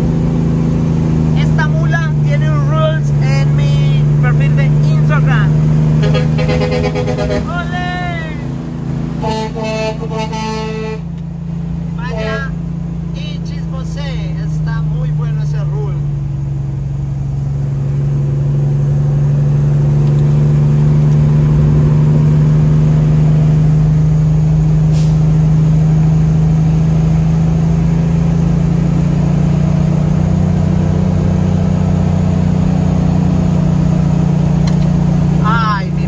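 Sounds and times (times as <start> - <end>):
truck engine drone from cab: 0.0 - 36.0.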